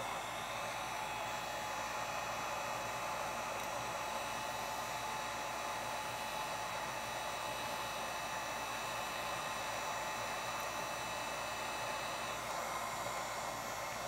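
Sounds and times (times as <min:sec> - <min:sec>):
heat gun blowing air: 0:00.0 - 0:14.0.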